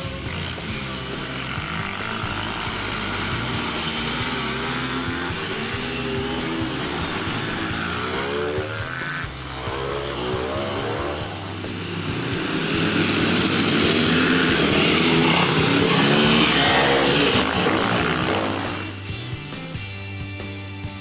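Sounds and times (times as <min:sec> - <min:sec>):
dirt bike engines revving: 0:00.0 - 0:20.6
background music with bass: 0:00.0 - 0:21.0.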